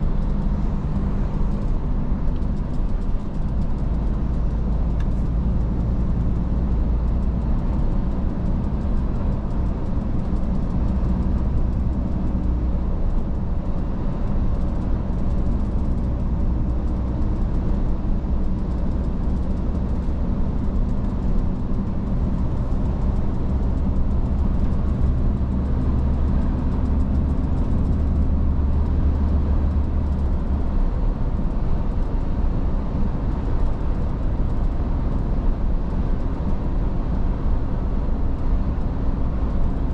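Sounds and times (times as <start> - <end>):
truck engine drone: 0.0 - 39.9
tyre and road noise: 0.0 - 39.9.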